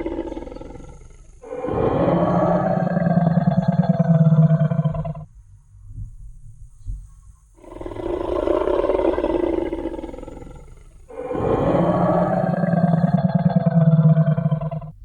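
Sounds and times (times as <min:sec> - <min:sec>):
deep dinosaur roars: 0:00.0 - 0:05.3, 0:07.6 - 0:15.0.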